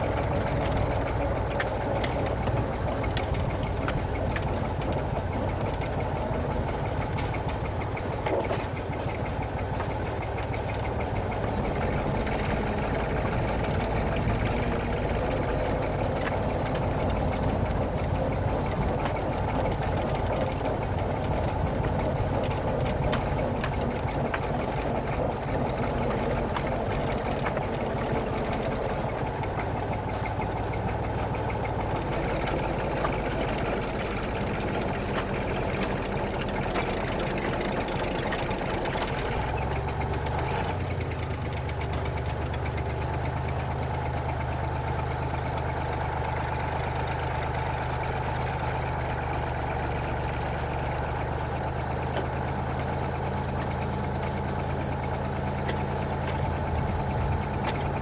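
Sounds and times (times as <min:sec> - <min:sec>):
diesel train engine running: 0:00.0 - 0:58.0
running gear rattling on track: 0:00.0 - 0:58.0.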